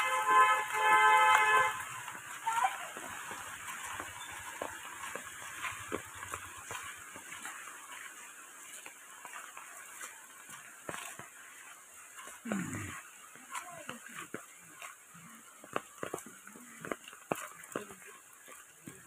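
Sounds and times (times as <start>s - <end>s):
rain falling: 0.0s - 19.0s
water drips and splashes: 0.0s - 19.0s.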